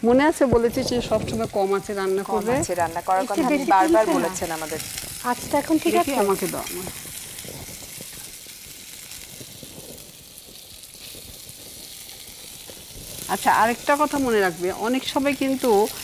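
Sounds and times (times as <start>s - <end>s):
onion sizzling in oil: 0.0s - 16.0s.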